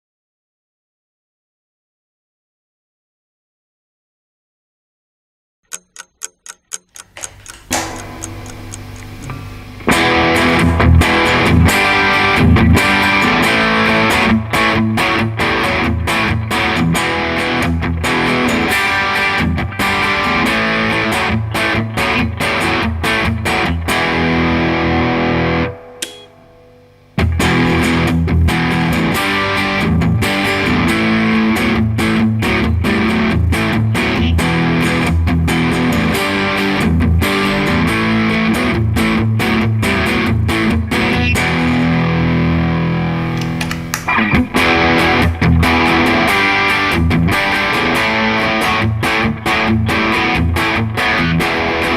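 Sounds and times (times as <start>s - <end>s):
distorted electric guitar strumming: 6.9s - 51.9s.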